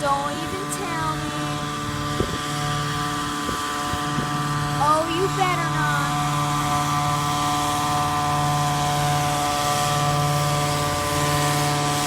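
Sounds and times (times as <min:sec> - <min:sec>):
fogging sprayer engine and blower drone: 0:00.0 - 0:12.0.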